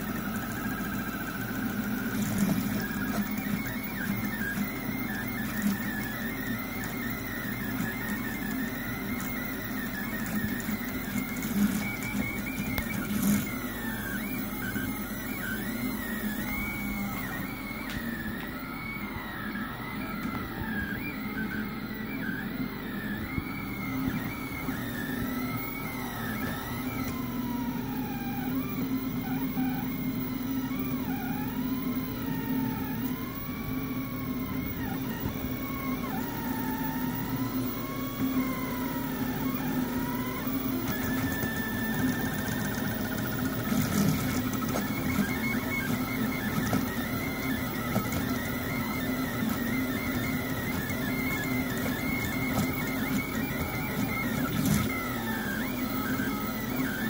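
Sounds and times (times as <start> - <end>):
steady hum: 0.0 - 57.0
stepper motors whining: 0.0 - 57.0.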